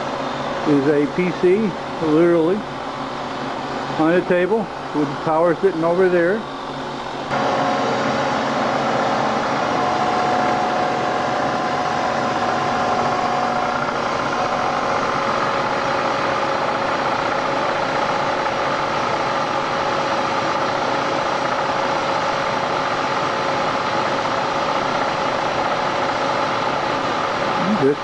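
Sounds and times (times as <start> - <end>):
milling machine whine: 0.0 - 28.0.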